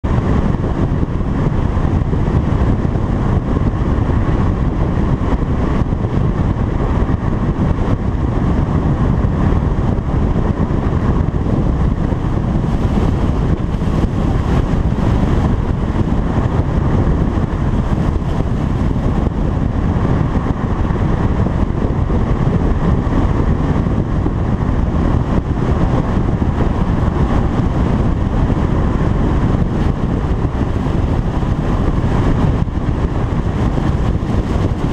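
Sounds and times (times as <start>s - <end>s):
road and wind noise: 0.0s - 34.9s.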